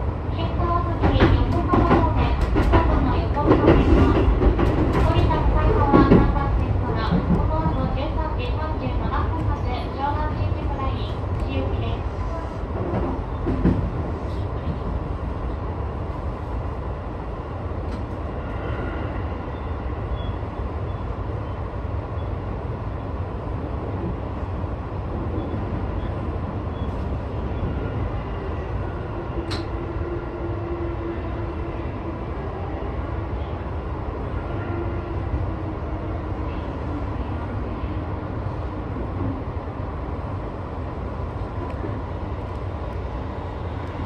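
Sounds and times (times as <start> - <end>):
electric train rumble: 0.0 - 44.0.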